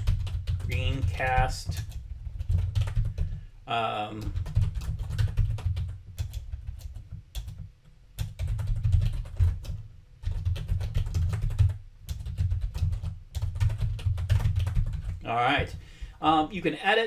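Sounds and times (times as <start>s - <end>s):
typing on computer keyboard: 0.0s - 3.4s, 4.1s - 15.8s.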